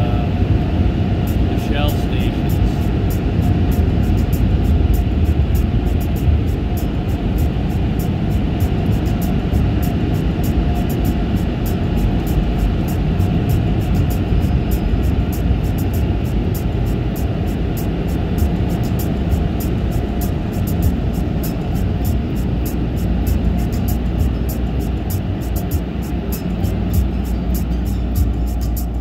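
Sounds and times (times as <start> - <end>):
car wash machinery rumble and hiss: 0.0 - 29.0.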